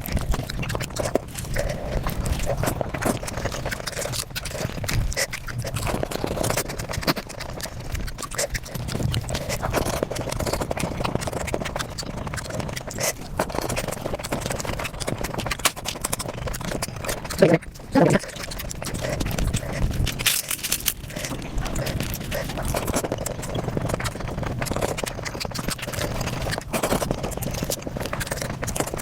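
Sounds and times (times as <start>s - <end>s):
sped-up eating sounds: 0.0s - 29.0s.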